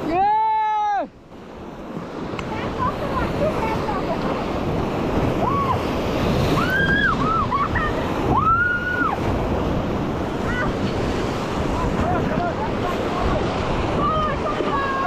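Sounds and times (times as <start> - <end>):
river water rushing: 0.0 - 15.0
wind buffeting microphone: 1.2 - 15.0.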